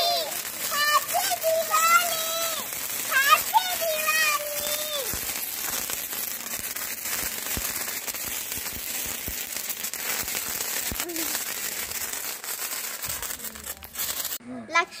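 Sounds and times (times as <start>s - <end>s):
sparklers fizzing and crackling: 0.0s - 14.4s.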